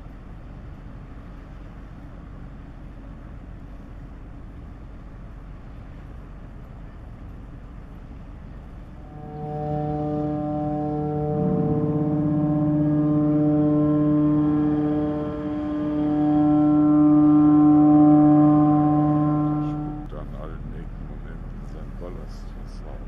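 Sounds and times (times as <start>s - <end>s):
ship's horn blast: 0.0s - 23.0s.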